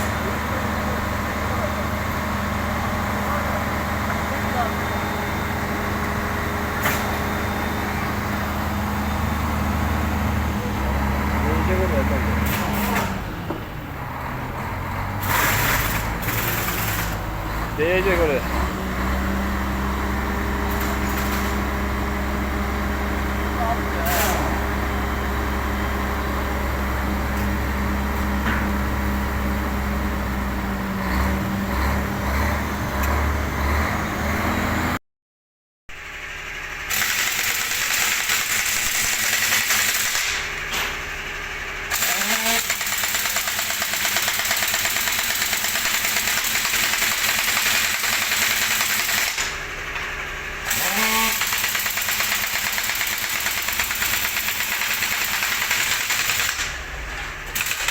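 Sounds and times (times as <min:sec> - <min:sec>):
heavy truck engine running: 0:00.0 - 0:35.0, 0:35.9 - 0:57.9.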